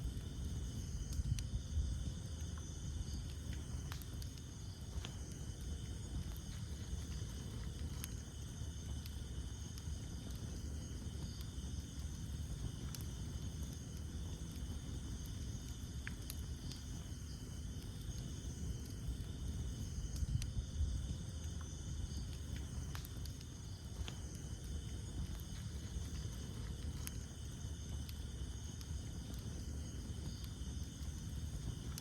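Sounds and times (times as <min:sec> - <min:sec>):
insect chorus: 0:00.0 - 0:32.0
low rumble of flames: 0:00.0 - 0:32.0
wood fire crackling and popping: 0:00.0 - 0:32.0.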